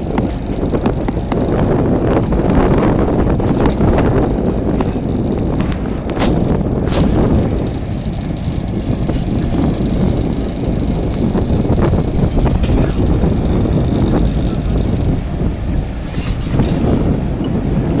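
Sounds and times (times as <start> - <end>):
boat engine and hull rumble: 0.0 - 18.0
wind buffeting microphone: 0.0 - 18.0.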